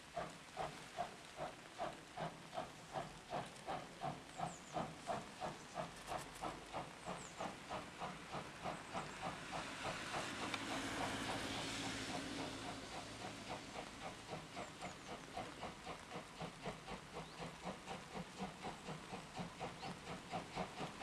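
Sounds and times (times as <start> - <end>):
steam hissing: 0.0 - 21.0
steam locomotive exhaust beats: 0.0 - 21.0.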